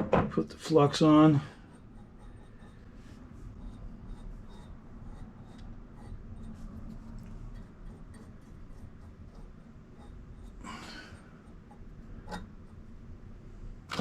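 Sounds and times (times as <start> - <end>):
low steady hum: 0.0 - 14.0
brush scratching on copper pipe: 0.7 - 10.6, 11.2 - 12.8.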